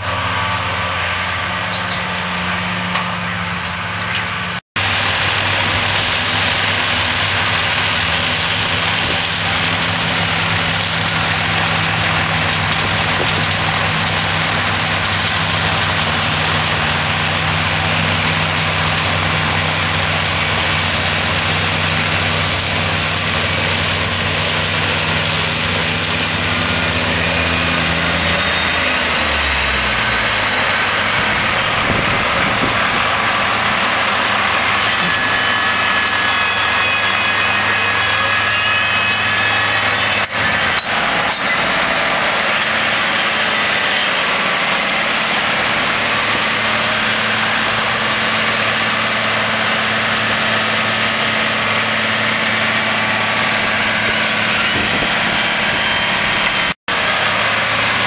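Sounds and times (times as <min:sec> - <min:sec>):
forage harvester working: 0:00.0 - 0:58.0
machine whine: 0:00.0 - 0:58.0
tractor engine running: 0:00.0 - 0:58.0.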